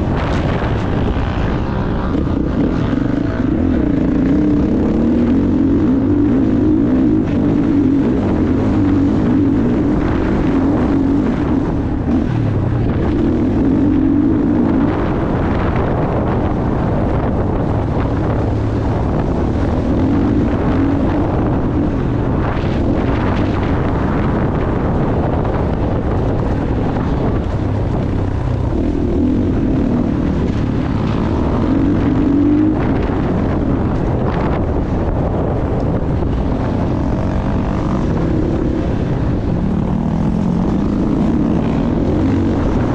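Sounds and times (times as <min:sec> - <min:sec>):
dirt bike engine revving: 0:00.0 - 0:42.9
wind buffeting microphone: 0:00.0 - 0:42.9.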